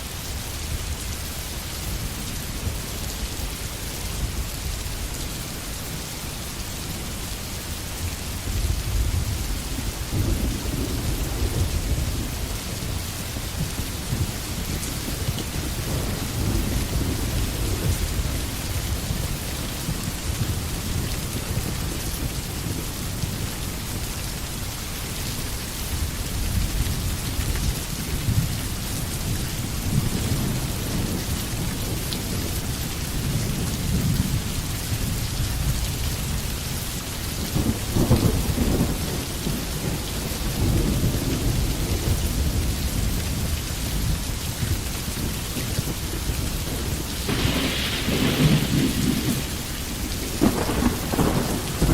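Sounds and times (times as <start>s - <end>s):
rain falling on forest: 0.0s - 51.9s.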